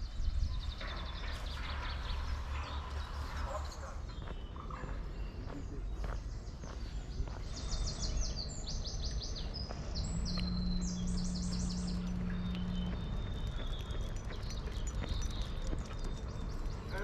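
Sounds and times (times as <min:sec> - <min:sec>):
low outdoor rumble: 0:00.0 - 0:17.0
songbird singing: 0:00.0 - 0:17.0
steady low hum: 0:00.0 - 0:17.0.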